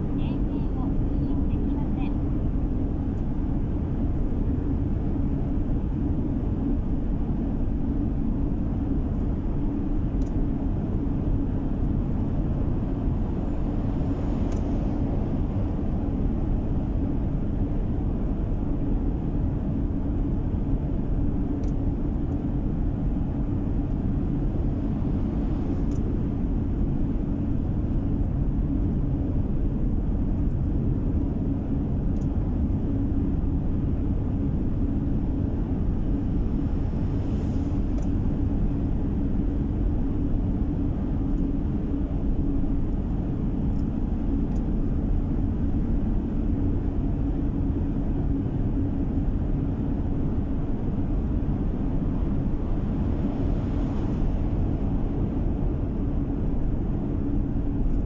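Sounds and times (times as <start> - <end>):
car road noise in tunnel: 0.0 - 58.0.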